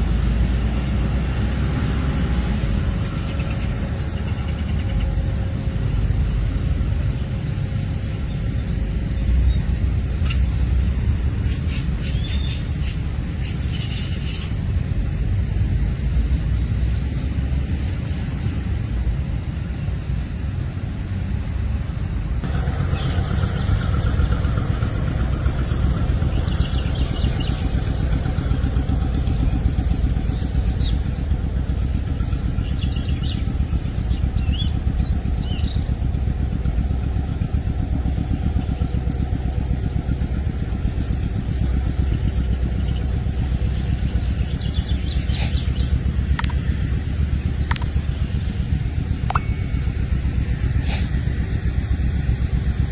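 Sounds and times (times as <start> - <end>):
diesel engines rumbling: 0.0 - 52.9.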